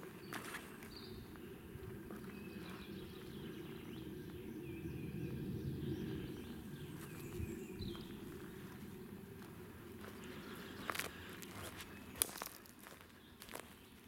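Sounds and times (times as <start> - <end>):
small birds chirping: 0.0 - 14.0
low rumbling noise: 0.6 - 12.8.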